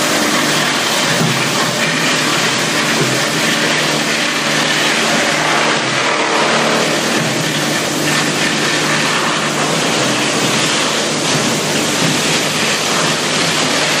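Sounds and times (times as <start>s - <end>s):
low machine hum: 0.0s - 14.0s
machinery rushing noise: 0.0s - 14.0s.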